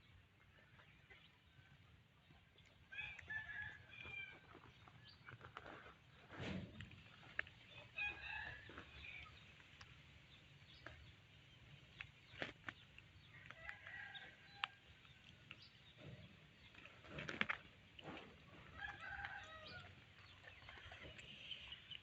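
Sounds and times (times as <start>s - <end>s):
faint chickens clucking: 0.1s - 22.0s.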